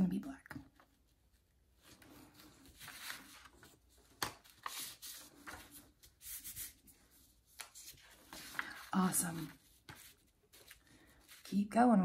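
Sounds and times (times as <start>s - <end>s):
paper rustling: 0.7s - 11.8s.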